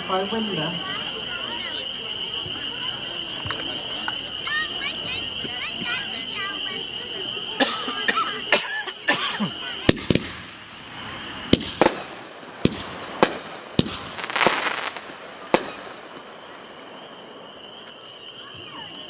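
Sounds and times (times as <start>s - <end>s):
firework crackle: 0.0s - 19.0s.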